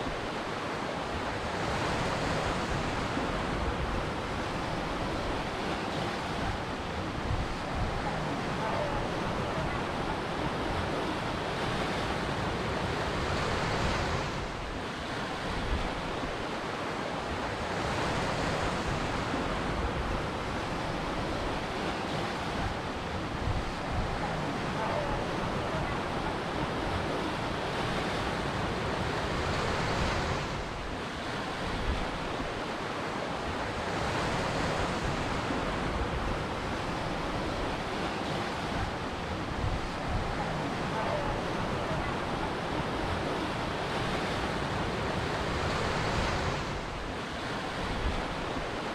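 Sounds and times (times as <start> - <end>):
ocean waves breaking on shore: 0.0 - 48.9.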